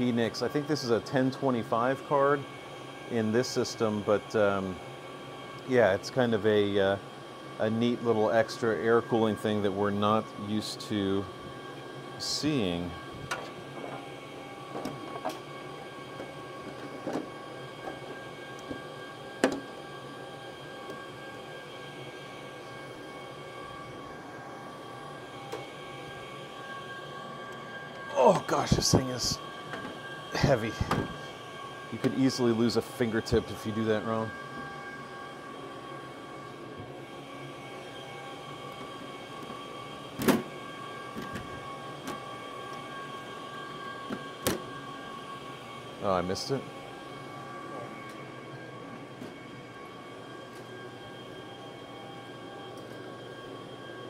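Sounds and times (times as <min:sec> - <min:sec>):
server fans humming: 0:00.0 - 0:53.7.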